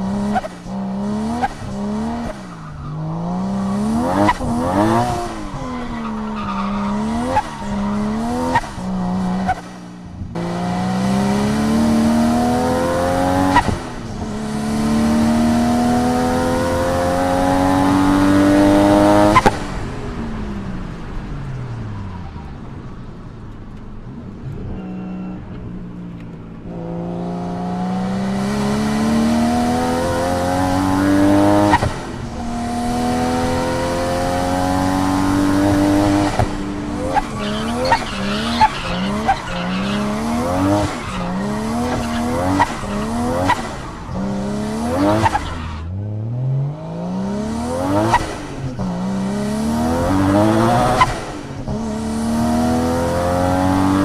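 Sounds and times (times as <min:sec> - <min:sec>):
car engine revving: 0:00.0 - 0:22.1, 0:24.0 - 0:54.0.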